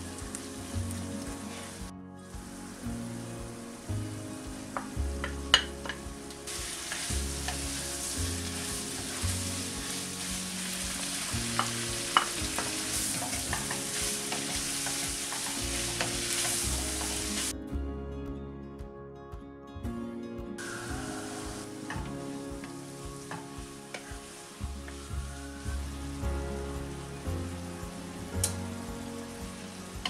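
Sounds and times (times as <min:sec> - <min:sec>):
food sizzling in a wok: 0:00.0 - 0:17.5, 0:20.6 - 0:30.0.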